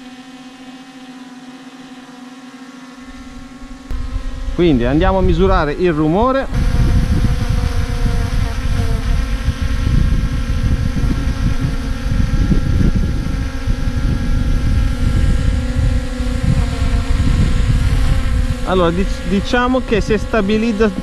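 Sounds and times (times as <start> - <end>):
drone propellers whining: 0.0 - 21.0
rotor wash buffeting microphone: 0.0 - 21.0.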